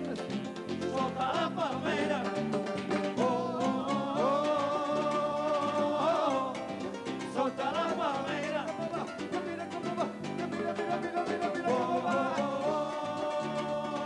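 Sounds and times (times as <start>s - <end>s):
busy percussion: 0.0s - 14.0s
guitar chords: 0.0s - 14.0s
man singing: 0.0s - 14.0s.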